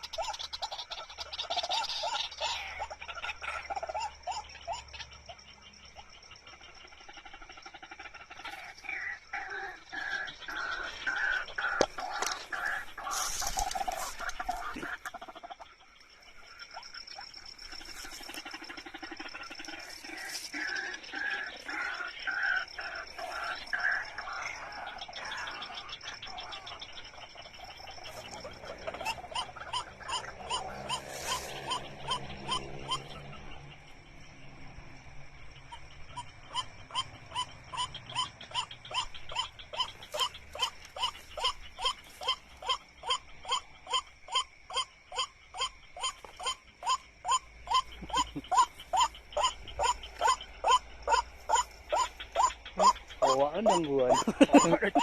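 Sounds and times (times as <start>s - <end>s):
waterhen calling: 0.0s - 5.1s, 6.6s - 33.6s, 35.6s - 55.0s
frog-like croaks: 0.0s - 55.0s.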